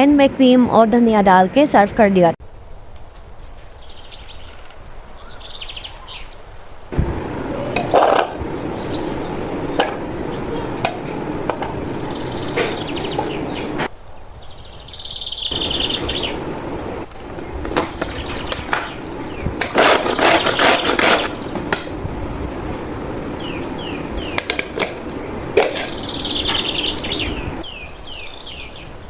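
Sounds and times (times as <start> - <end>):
steady hiss: 2.4 - 29.0
birds chirping in trills: 3.7 - 21.7, 22.3 - 29.0.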